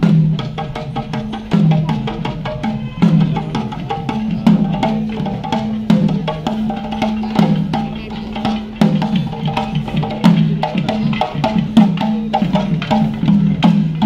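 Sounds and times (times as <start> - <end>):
drums beaten in fast rhythm: 0.0 - 14.0.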